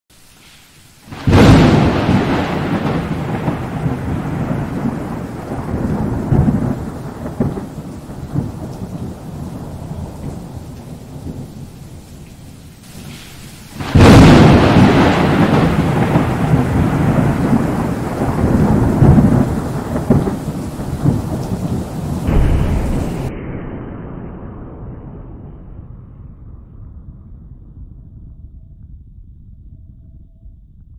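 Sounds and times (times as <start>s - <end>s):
thunder crack and rumble: 1.1s - 30.9s.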